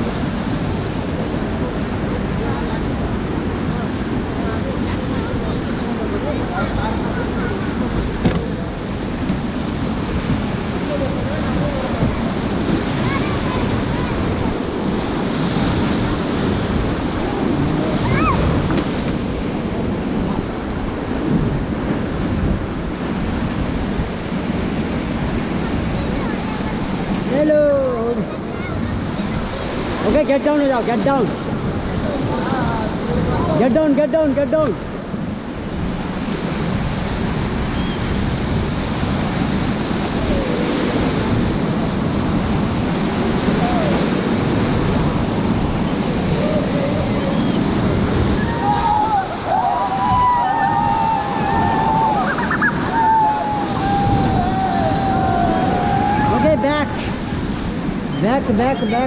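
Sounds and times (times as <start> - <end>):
white-water river rushing: 0.0 - 59.0
wind buffeting microphone: 0.0 - 59.0.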